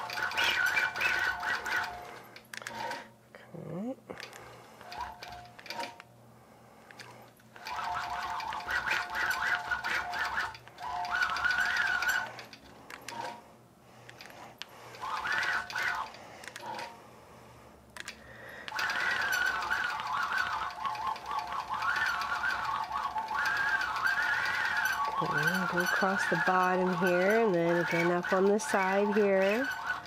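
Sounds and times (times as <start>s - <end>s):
quilting machine motor whine: 0.0s - 3.1s, 4.2s - 30.0s.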